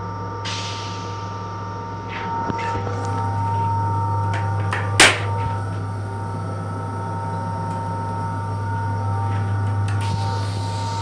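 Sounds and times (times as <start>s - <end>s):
electric railcar hum: 0.0s - 11.0s.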